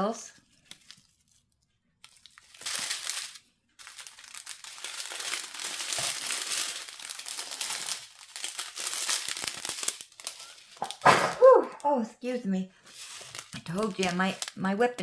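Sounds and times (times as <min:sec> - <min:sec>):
plastic bags crinkling: 0:00.4 - 0:11.9, 0:12.8 - 0:15.0.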